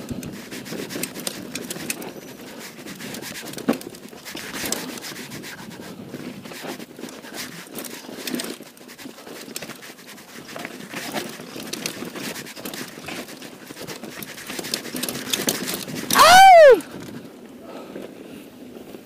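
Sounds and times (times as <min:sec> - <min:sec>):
bike clicks and rattles: 0:00.0 - 0:19.0.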